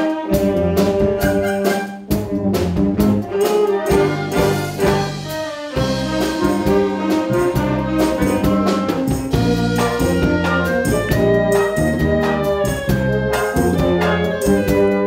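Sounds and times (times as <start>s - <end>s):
wind orchestra playing: 0.0s - 15.0s.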